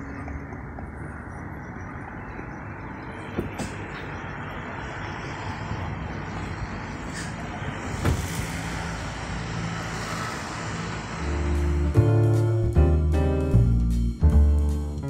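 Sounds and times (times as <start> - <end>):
road traffic rumble: 0.0 - 15.0
vehicle engine hum: 0.0 - 15.0.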